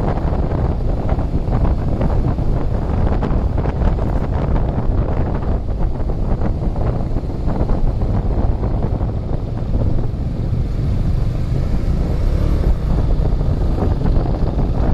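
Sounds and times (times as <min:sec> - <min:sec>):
motorcycle engine running: 0:00.0 - 0:14.9
wind buffeting microphone: 0:00.0 - 0:14.9.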